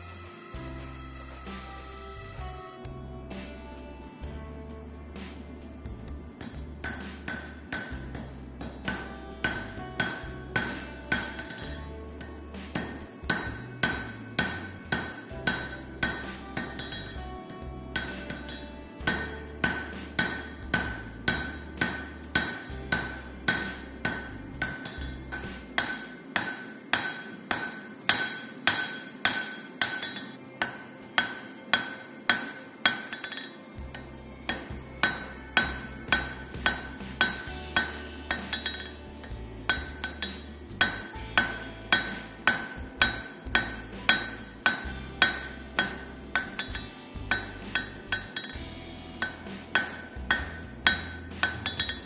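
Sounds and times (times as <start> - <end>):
hammer ringing on steel: 6.3 - 52.0.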